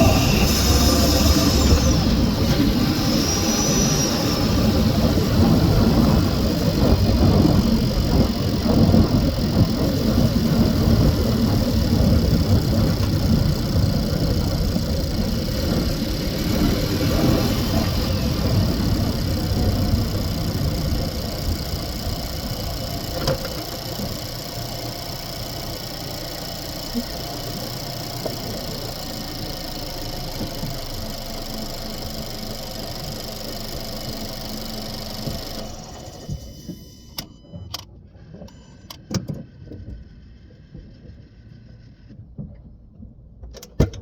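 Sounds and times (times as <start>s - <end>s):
car engine low rumble: 0.0s - 44.0s.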